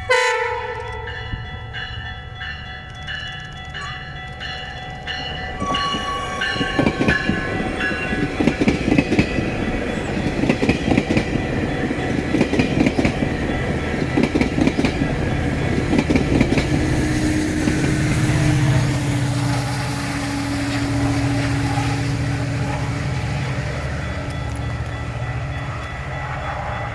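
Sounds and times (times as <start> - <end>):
diesel locomotive drone: 0.0 - 26.9
train wheels clattering: 0.6 - 26.9.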